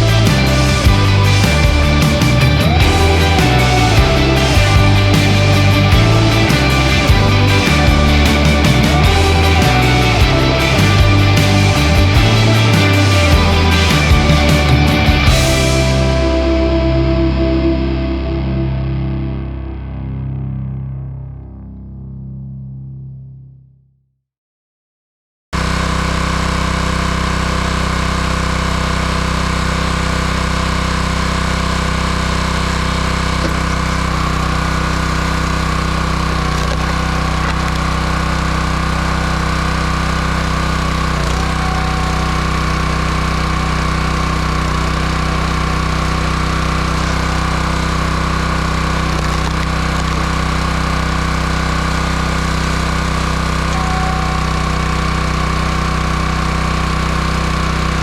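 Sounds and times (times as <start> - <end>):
small engine running steadily: 0.0 - 19.2, 25.6 - 58.0.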